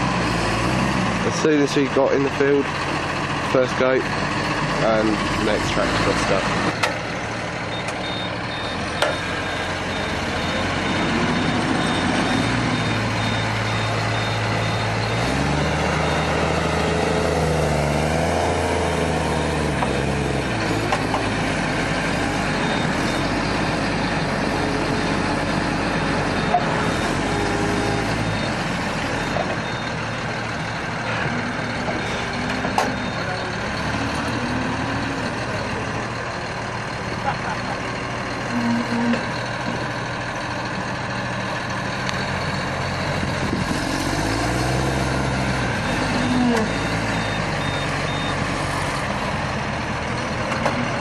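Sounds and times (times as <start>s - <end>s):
tractor engine revving: 0.0s - 51.0s.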